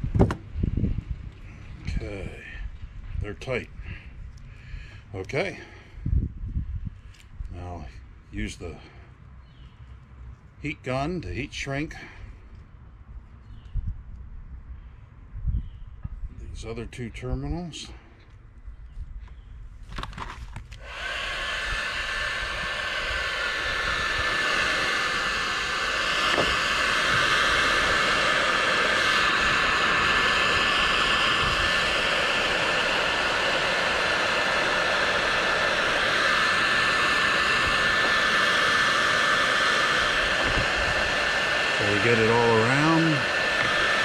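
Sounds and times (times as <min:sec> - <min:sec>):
heat gun fan with whine: 0:00.0 - 0:44.0.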